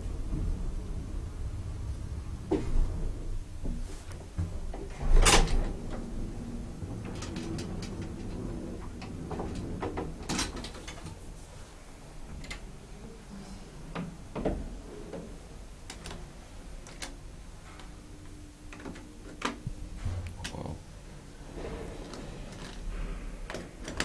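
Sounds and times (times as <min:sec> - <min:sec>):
elevator rumble: 0:00.0 - 0:24.0.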